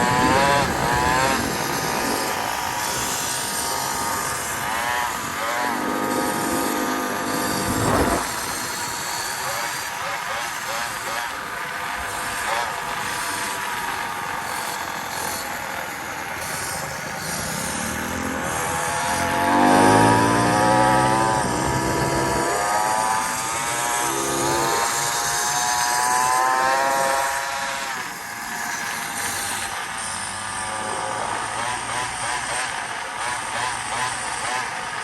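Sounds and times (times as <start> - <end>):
small motorbike engine revving: 0.0 - 35.0
wind and road noise: 0.0 - 35.0.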